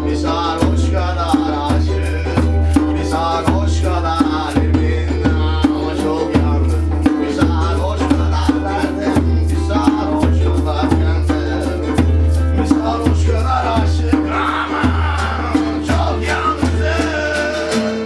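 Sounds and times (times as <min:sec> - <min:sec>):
bass: 0:00.0 - 0:18.0
drums and percussion: 0:00.0 - 0:18.0.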